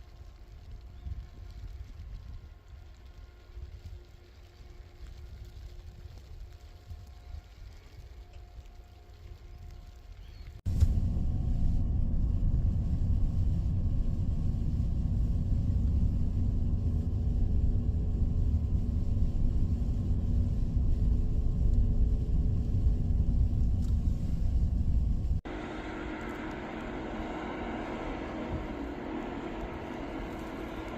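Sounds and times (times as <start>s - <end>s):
faint engine hum: 0.0s - 30.9s
vehicle road rumble: 0.0s - 30.9s.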